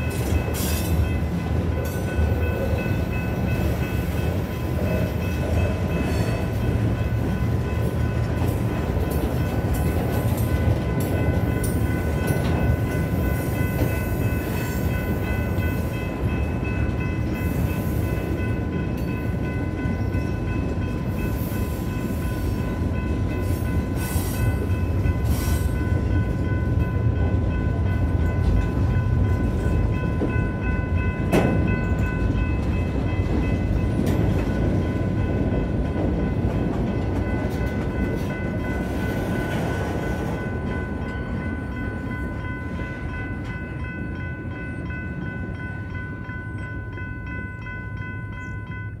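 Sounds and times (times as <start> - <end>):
crossing signal bells ringing: 0.0 - 49.0
freight train rumble and wheel clatter: 0.0 - 49.0.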